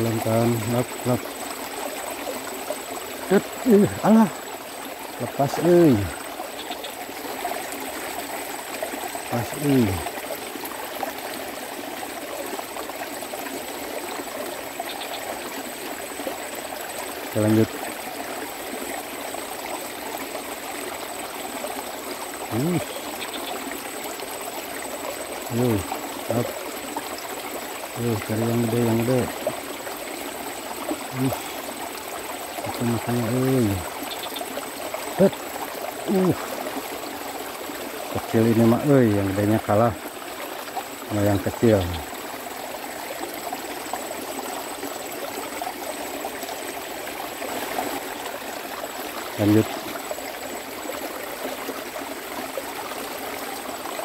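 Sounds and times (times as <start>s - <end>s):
water trickling in a ditch: 0.0s - 54.0s.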